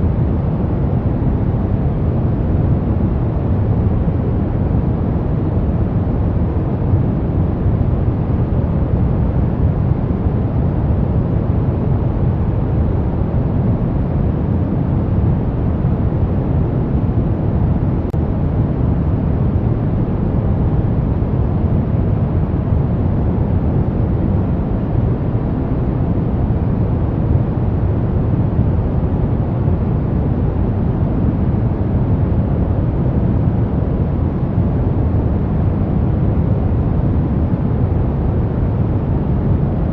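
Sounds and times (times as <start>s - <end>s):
deep brown noise hiss: 0.0s - 39.9s.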